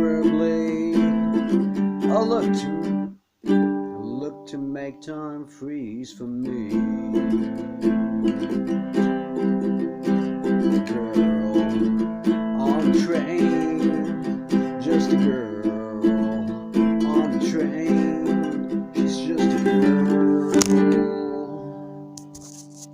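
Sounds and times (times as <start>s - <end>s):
plucked string instrument chords: 0.0s - 22.3s.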